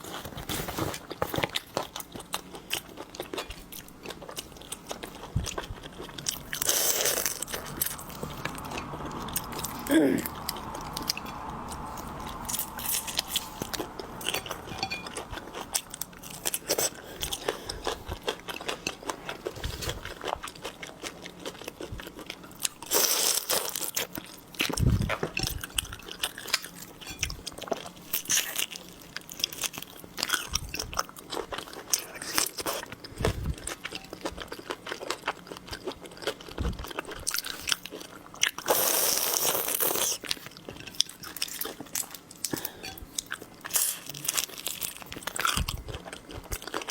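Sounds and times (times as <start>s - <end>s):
wet chewing: 1.0s - 46.9s.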